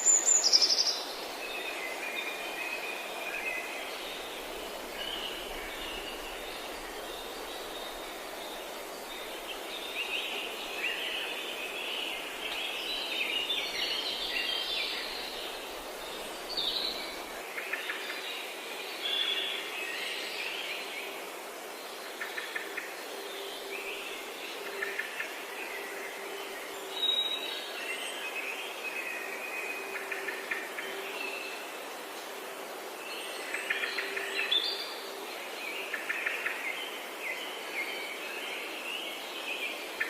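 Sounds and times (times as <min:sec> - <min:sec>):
background hiss: 0:00.0 - 0:40.0.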